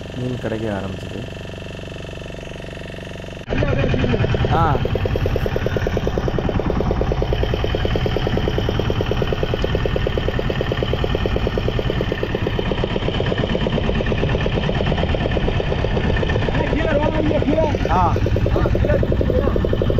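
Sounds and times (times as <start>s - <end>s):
small boat engine pulsing: 0.0s - 19.9s.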